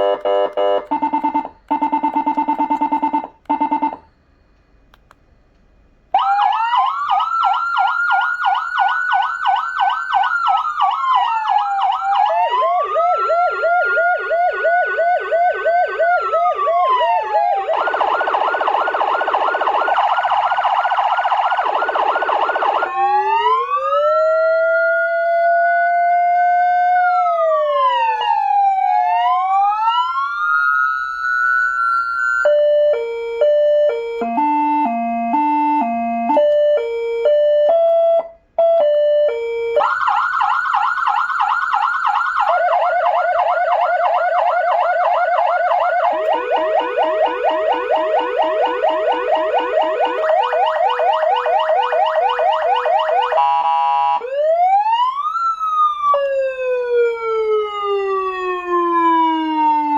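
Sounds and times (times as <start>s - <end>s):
electronic vehicle siren: 0.0s - 4.6s, 6.2s - 59.9s.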